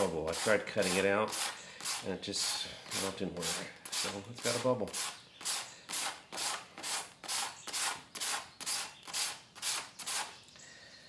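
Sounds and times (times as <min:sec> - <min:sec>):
sandpaper rubbing back and forth: 0:00.0 - 0:10.4.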